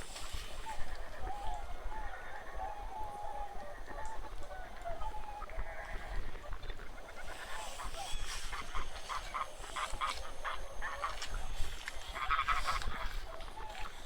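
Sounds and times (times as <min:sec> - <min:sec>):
geese honking: 0:00.0 - 0:14.0.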